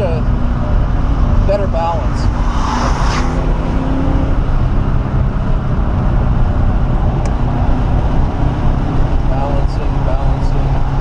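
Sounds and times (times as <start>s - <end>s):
car engine drone: 0.0s - 11.0s
road and wind noise: 0.0s - 11.0s.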